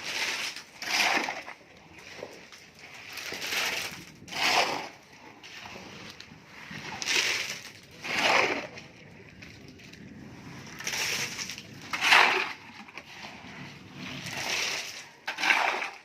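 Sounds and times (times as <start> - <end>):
masonry scraping strokes: 0.0 - 16.0.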